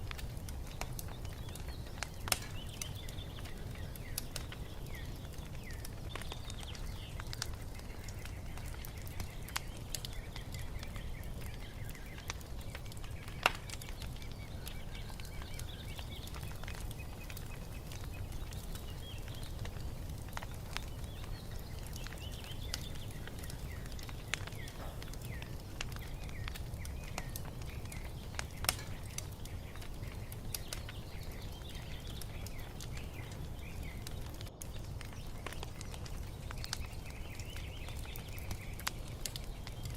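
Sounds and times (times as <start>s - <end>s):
birds chirping faintly: 0.0s - 39.9s
wood fire crackling and popping: 0.0s - 39.9s.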